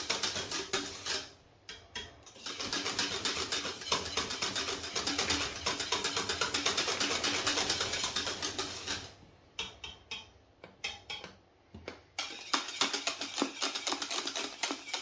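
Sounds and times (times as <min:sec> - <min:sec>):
whisk beating in metal saucepan: 0:00.0 - 0:11.4, 0:12.2 - 0:15.0
whisk tapping pan: 0:00.0 - 0:11.4, 0:12.2 - 0:15.0.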